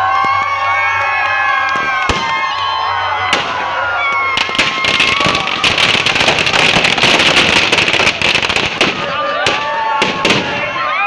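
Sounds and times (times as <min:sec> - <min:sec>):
crowd voices: 0:00.0 - 0:11.0
firecrackers crackling: 0:01.2 - 0:10.8.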